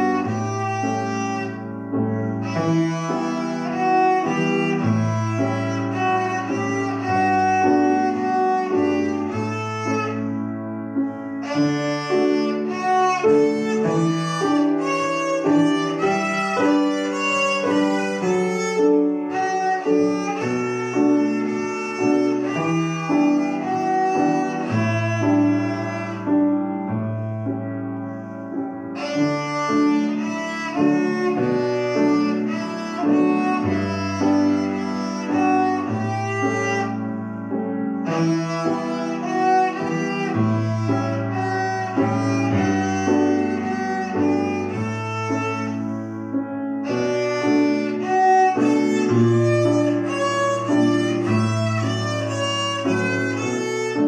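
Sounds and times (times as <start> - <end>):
piano accompaniment: 0.0 - 54.0
violin playing: 0.0 - 54.0.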